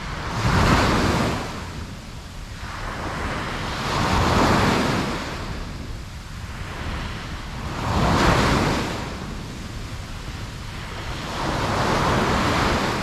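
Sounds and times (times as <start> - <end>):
surf hiss: 0.0 - 13.0
waves crashing on a beach: 0.0 - 13.0
wind: 0.0 - 13.0.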